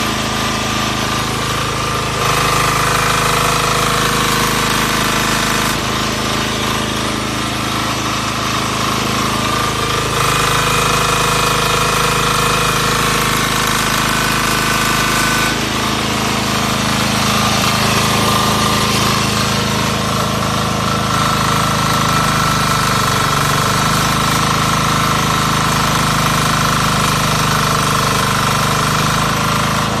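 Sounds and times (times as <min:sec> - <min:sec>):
generator engine running: 0:00.0 - 0:30.0.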